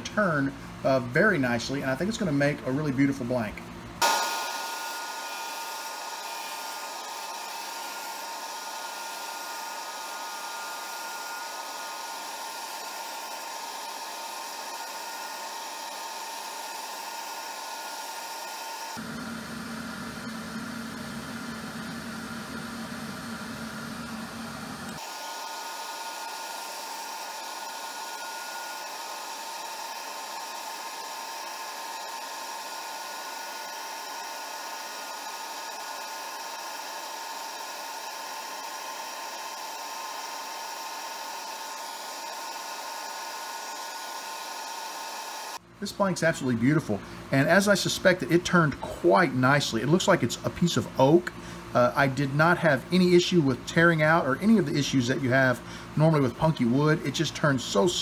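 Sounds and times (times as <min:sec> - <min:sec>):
wood lathe whirring: 0:04.0 - 0:58.0.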